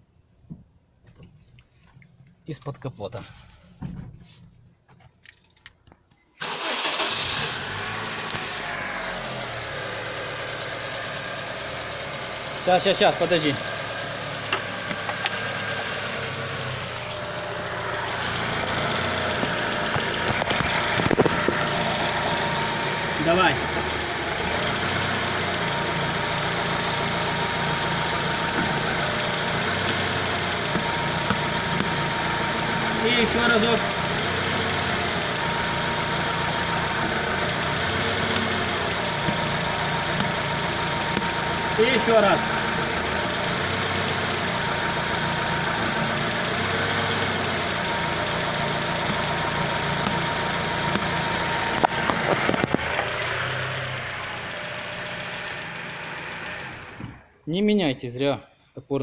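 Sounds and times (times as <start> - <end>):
car engine idling: 6.4 - 57.4.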